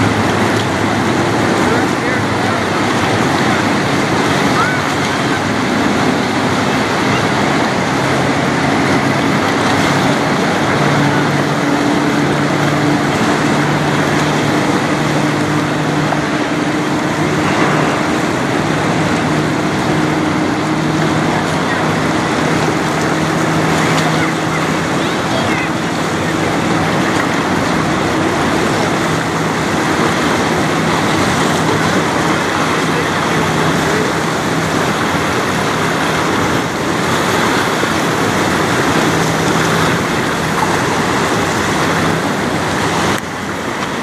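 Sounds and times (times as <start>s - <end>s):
rushing background noise: 0.0s - 44.0s
ship diesel engine hum: 0.0s - 44.0s.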